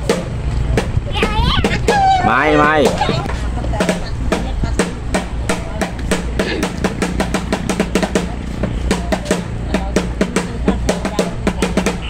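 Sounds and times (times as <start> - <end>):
fast drumming: 0.0 - 12.0.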